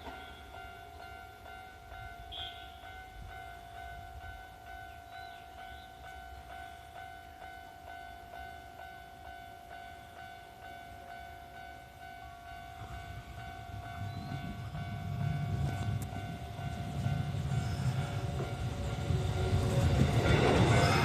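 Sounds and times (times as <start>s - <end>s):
level-crossing warning bell: 0.0s - 21.0s
train rumble: 0.0s - 21.0s.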